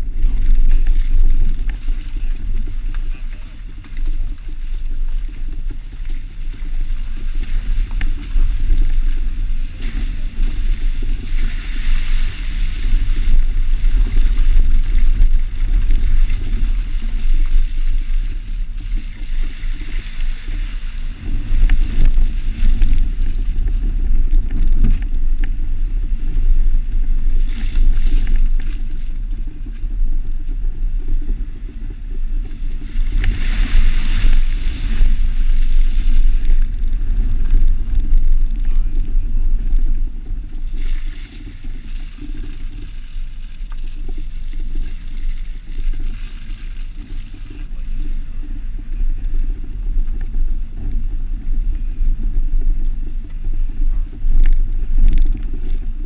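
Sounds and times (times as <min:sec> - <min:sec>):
engine low rumble: 0:00.0 - 0:56.0
wind buffeting microphone: 0:00.0 - 0:56.0.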